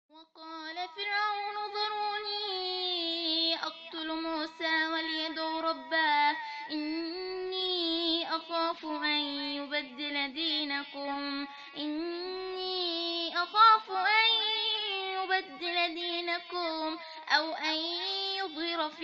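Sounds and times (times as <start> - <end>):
woman chanting recitation: 0.1 - 19.0.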